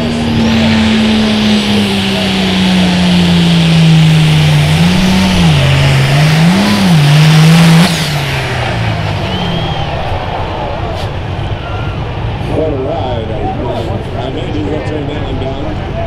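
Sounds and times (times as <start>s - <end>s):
diesel tractor engine at full load: 0.0s - 16.0s.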